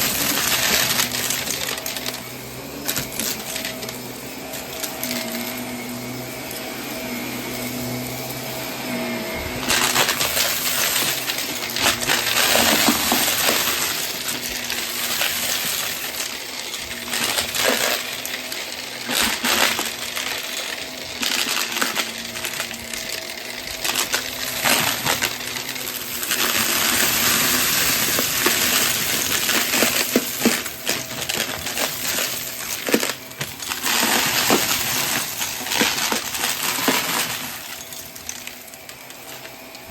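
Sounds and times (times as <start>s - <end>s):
debris rattling in vacuum: 0.0s - 39.9s
vacuum cleaner motor hum: 0.0s - 39.9s.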